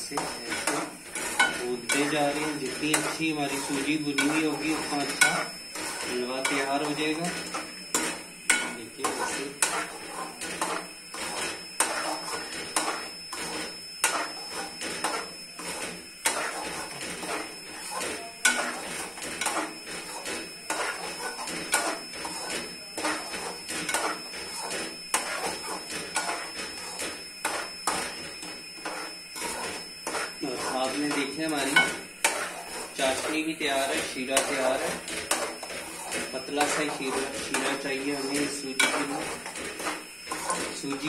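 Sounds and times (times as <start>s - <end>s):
spoon scraping metal pan: 0.0s - 41.0s.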